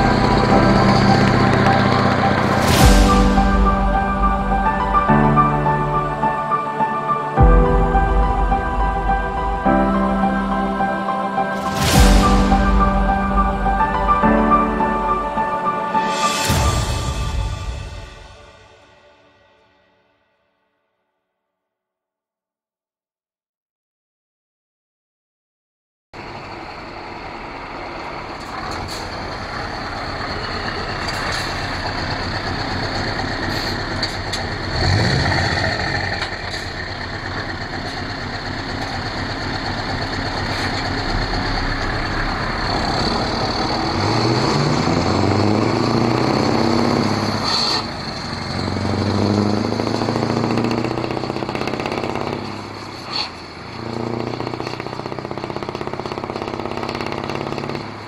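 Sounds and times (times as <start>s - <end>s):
truck driving by: 0.0s - 18.8s, 26.2s - 58.0s.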